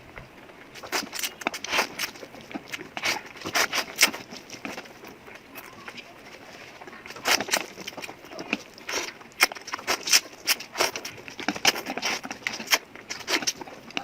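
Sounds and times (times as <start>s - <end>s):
person chewing food: 0.6s - 14.0s.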